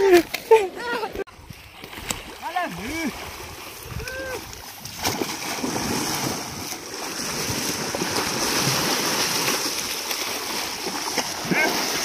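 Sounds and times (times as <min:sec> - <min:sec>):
muddy water churning and splashing: 0:00.0 - 0:12.0.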